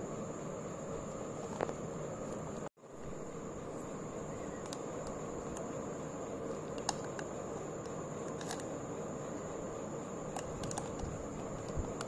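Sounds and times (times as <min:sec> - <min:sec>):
faint high whine: 0:00.0 - 0:12.0
steady background hiss: 0:00.0 - 0:12.0.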